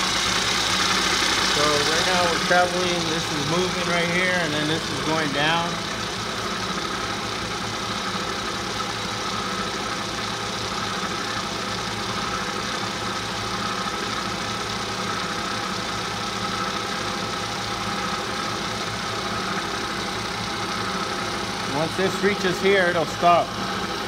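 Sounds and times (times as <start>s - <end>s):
milling machine humming: 0.0s - 24.0s.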